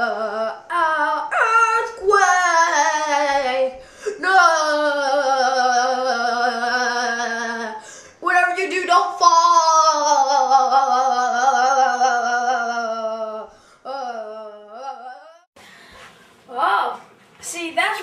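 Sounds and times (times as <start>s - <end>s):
child singing long notes: 0.0s - 15.5s.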